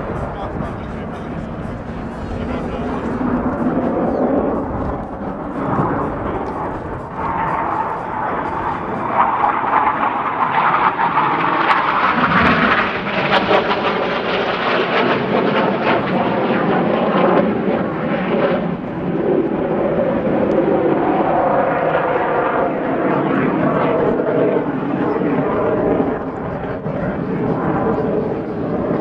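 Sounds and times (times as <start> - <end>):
jet rushing past: 0.0 - 25.2.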